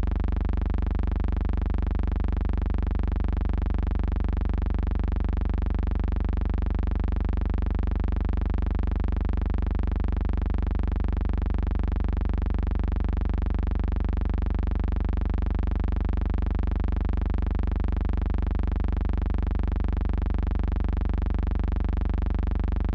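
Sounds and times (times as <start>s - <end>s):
loud buzzing electrical hum: 0.0s - 22.9s.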